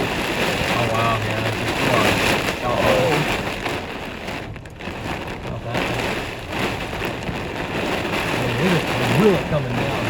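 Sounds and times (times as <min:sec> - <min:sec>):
heavy rain on a car: 0:00.0 - 0:10.0.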